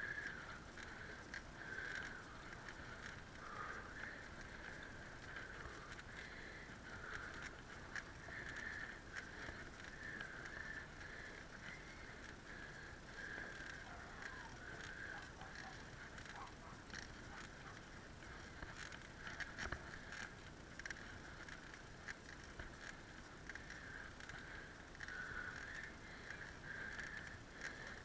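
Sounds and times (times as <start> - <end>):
bicycle clicks and rattles: 0.0 - 28.0
bicycle tyres humming: 0.0 - 28.0.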